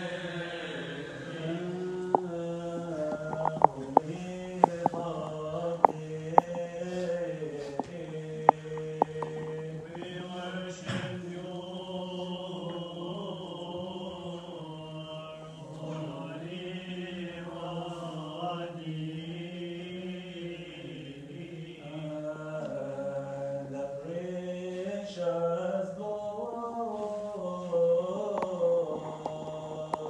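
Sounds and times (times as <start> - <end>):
men chanting: 0.0 - 30.0.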